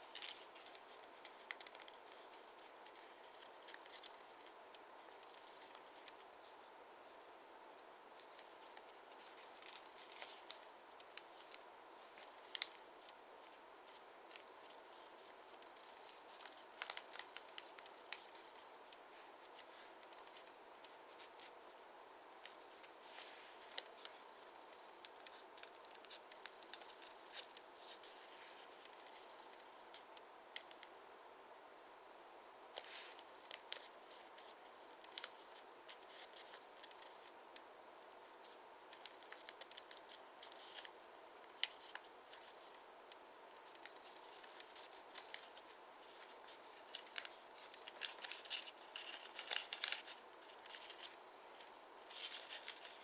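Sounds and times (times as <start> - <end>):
paper crinkling and tapping: 0.0 - 6.5, 8.2 - 21.5, 22.4 - 30.9, 32.7 - 37.6, 38.4 - 53.0
steady low hiss: 0.0 - 53.0.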